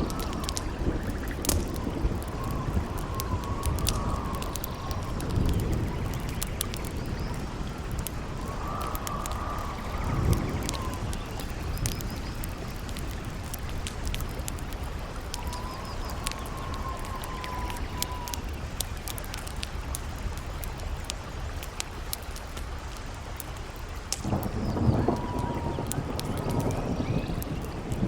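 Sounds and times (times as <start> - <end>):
campfire crackling and popping: 0.0 - 28.0
wind howling: 0.0 - 28.0.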